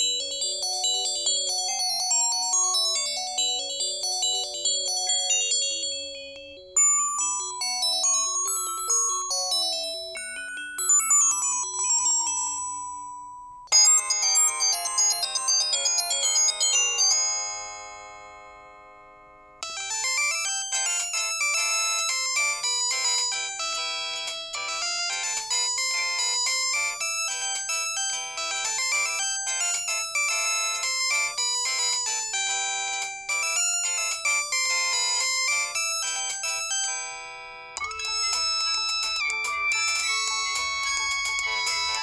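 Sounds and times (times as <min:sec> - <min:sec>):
mobile phone ringtone melody: 0:00.0 - 0:17.6, 0:19.6 - 0:42.0.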